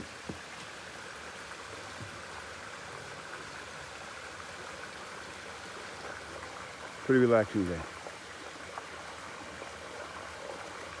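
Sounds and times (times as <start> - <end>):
brook flowing over small waterfall: 0.0 - 11.0.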